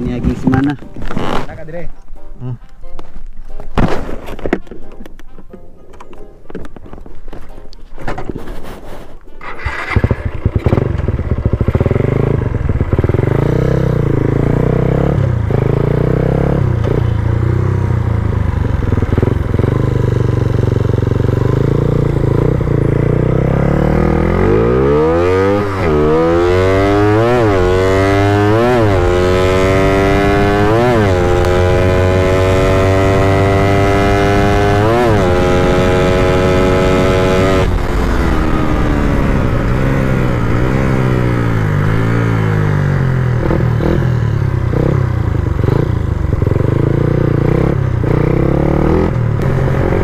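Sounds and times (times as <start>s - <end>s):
motorcycle engine revving through gears: 9.4s - 50.0s.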